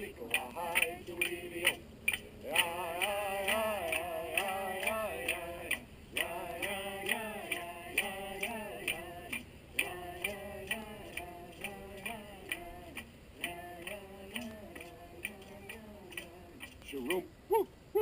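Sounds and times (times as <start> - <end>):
ticking beat: 0.0 - 17.2.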